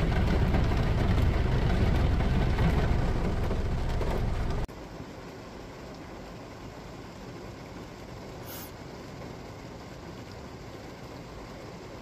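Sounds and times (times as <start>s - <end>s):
heavy rain on car roof: 0.0s - 12.0s
low rumble of car: 0.0s - 12.0s.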